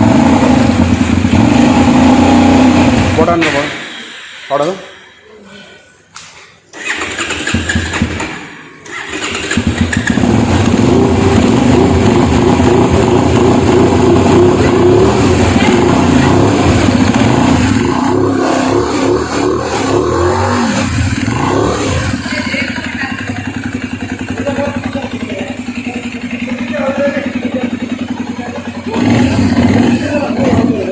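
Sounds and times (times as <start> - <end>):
motorcycle engine running: 0.0 - 3.9, 6.8 - 30.9.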